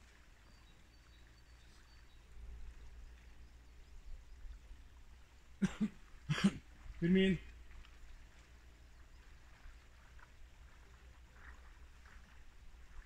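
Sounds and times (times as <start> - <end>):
low steady rumble: 0.0 - 13.0
water sloshing and splashing: 0.0 - 13.0.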